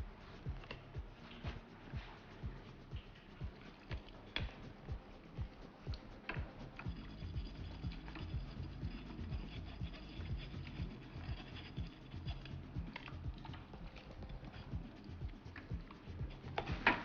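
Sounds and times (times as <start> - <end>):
spoon scraping and knocking in sieve: 0.2 - 17.0.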